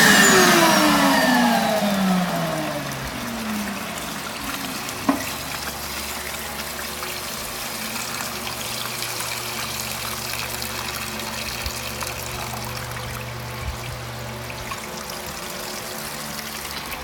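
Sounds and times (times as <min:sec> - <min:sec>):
low steady hum: 0:00.0 - 0:17.0
water pouring and trickling: 0:00.0 - 0:17.0.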